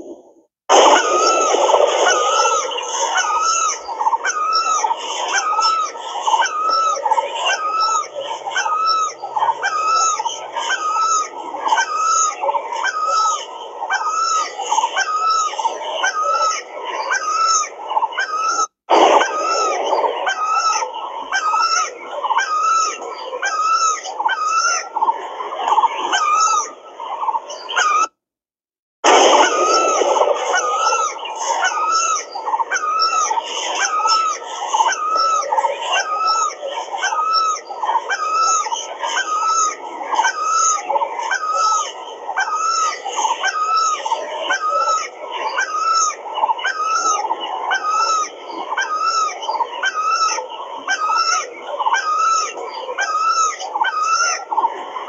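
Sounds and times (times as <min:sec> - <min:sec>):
background bird chorus: 0:00.0 - 0:28.2, 0:29.1 - 0:55.0.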